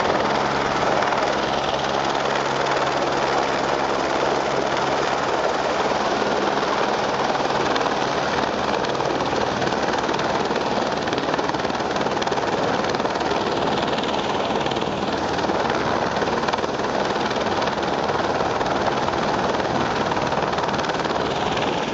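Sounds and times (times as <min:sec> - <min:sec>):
helicopter rotor and engine: 0:00.0 - 0:21.9.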